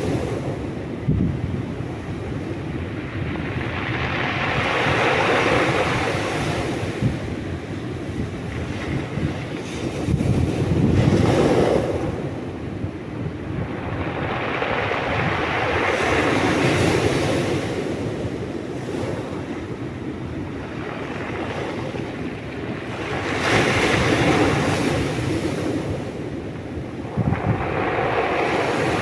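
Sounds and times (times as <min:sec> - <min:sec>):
sea waves washing in: 0:00.0 - 0:29.0
wind rumble on microphone: 0:00.0 - 0:29.0.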